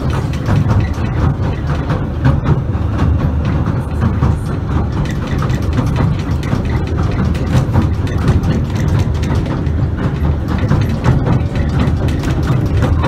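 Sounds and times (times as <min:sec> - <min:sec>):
carriage rattling and clicking: 0:00.0 - 0:13.0
train wheels rumbling on track: 0:00.0 - 0:13.0.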